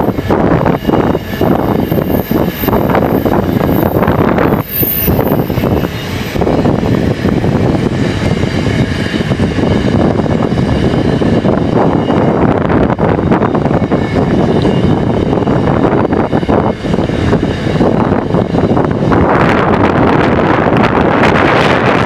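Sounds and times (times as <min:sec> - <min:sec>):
freight train rumbling past: 0:00.0 - 0:22.0
thin high whine: 0:00.0 - 0:22.0.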